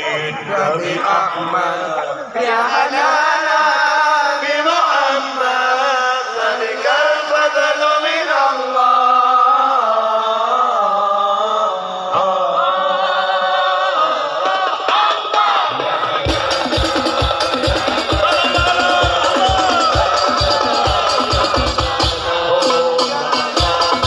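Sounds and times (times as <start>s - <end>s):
voices chanting devotional song: 0.0s - 24.0s.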